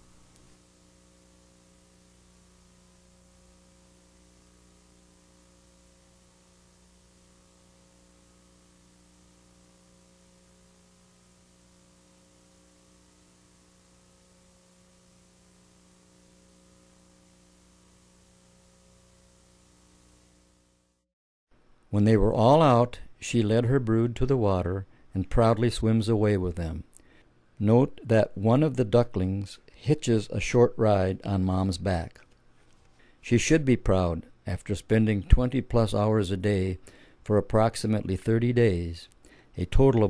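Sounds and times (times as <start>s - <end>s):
faint electrical hum: 0.0s - 40.0s.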